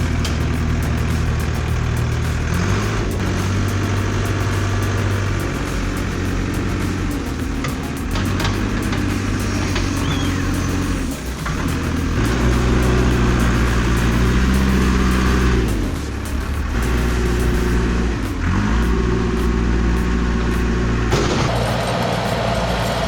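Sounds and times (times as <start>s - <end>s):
heavy machine engine under load: 0.0s - 23.0s.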